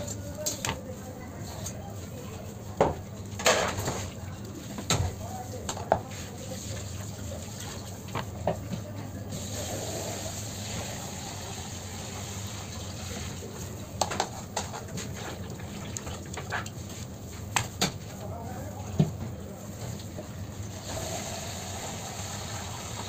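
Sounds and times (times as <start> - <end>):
background hum and hiss: 0.0 - 23.0.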